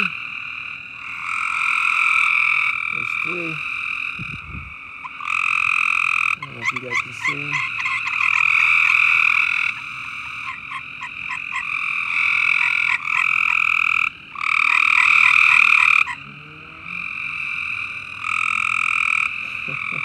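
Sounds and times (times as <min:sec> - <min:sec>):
frogs trilling chorus: 0:00.0 - 0:20.0.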